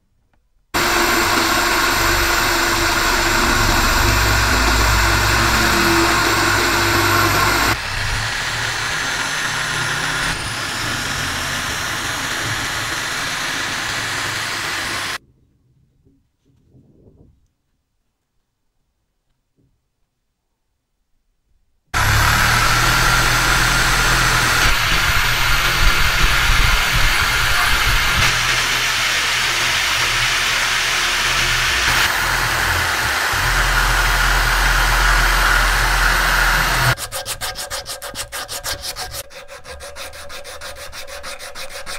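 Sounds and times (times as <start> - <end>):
rotary tool sanding metal: 0.8 - 15.2, 22.0 - 41.9.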